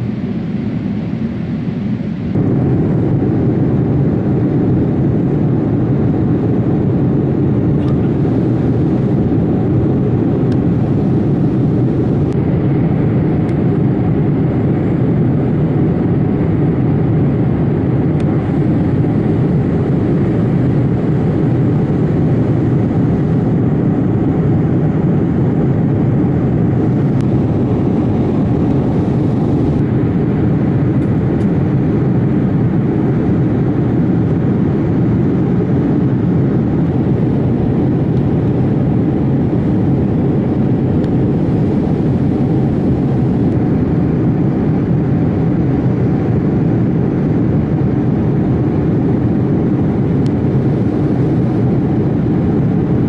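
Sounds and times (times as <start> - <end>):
jet airliner cabin drone: 0.0 - 53.0.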